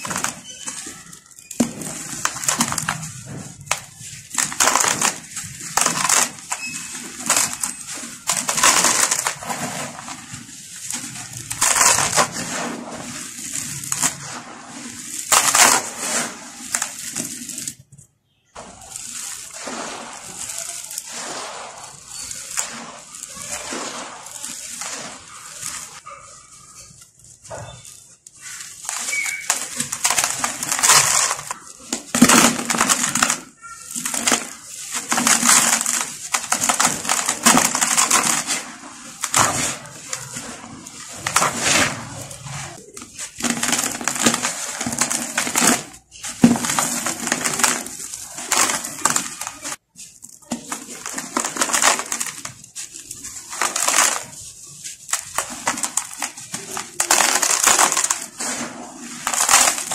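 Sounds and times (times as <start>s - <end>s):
hands crumbling dry powder: 0.0s - 17.8s, 18.6s - 59.9s.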